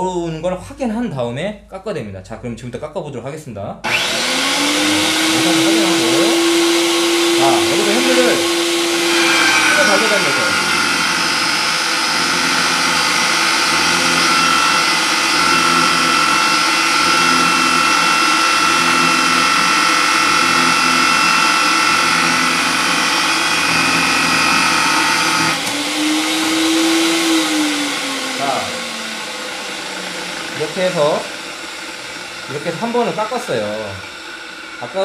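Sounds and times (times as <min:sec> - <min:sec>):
pipe threading machine running: 0:03.9 - 0:35.0.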